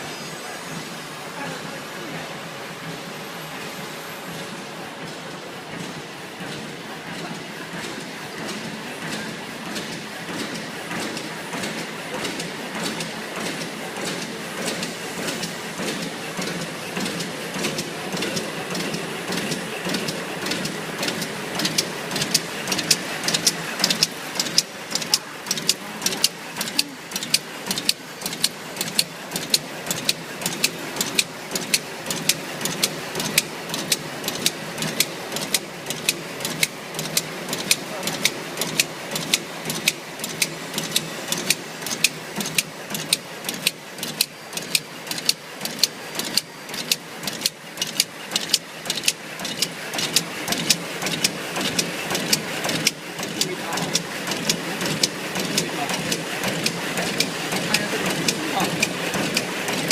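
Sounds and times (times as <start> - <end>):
machine running: 0.0 - 59.9
sharp machine clicks: 5.1 - 59.9.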